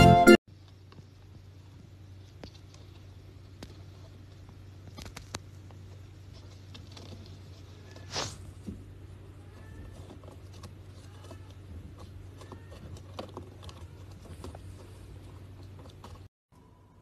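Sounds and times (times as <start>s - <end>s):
low steady hum: 0.5s - 17.0s
kitten scratching cardboard: 2.1s - 16.3s.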